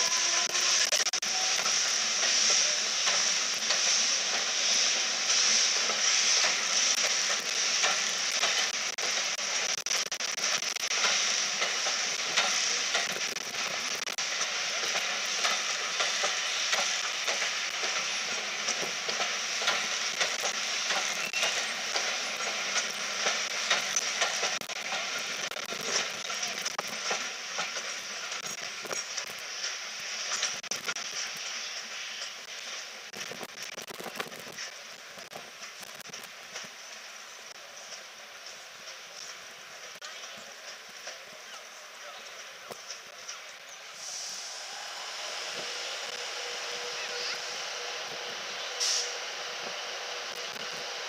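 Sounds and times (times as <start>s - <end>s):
steady high hiss: 0.0s - 51.0s.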